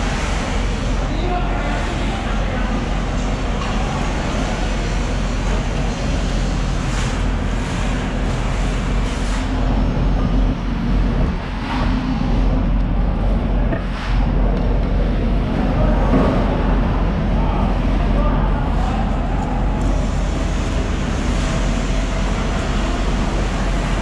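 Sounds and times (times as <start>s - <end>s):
dense background din: 0.0s - 24.0s
low machine hum: 0.0s - 24.0s.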